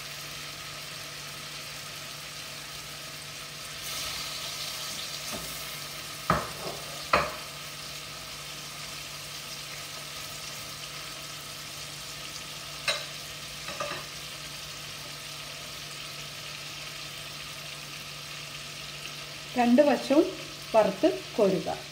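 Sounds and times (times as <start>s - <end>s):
chicken sizzling in a pan: 0.0s - 21.9s.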